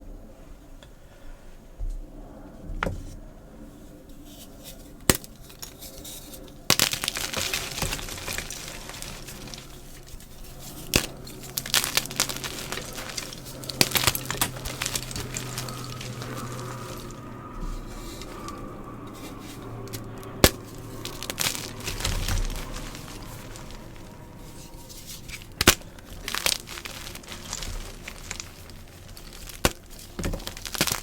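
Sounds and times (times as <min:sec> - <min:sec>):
chalk crunching and crackling: 0:04.0 - 0:31.0.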